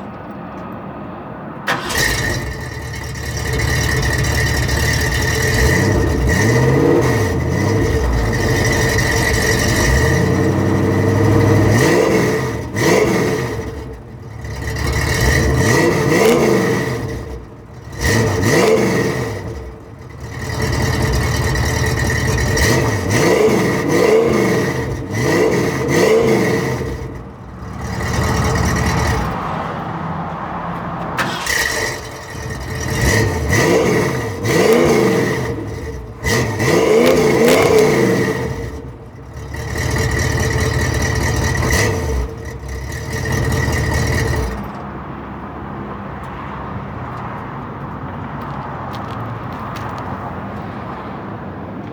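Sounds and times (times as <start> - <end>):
car engine revving: 1.6 - 50.7.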